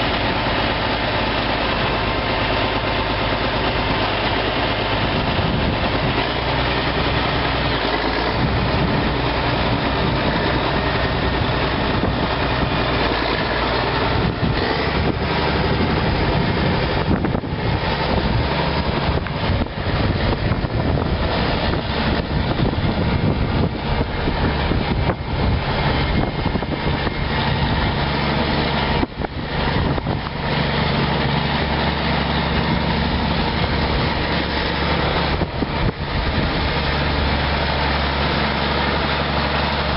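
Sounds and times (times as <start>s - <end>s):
dense rushing noise: 0.0s - 39.9s
tractor engine running: 0.0s - 39.9s.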